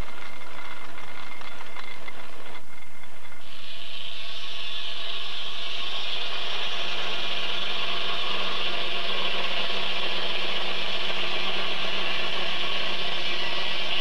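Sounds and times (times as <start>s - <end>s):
circular saw whining through wood: 0.0s - 14.0s
steady low hum: 0.0s - 14.0s.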